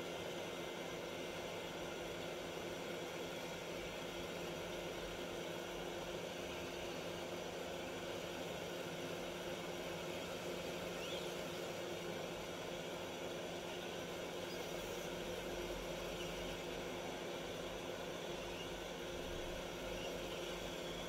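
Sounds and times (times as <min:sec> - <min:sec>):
fan hum: 0:00.0 - 0:21.0.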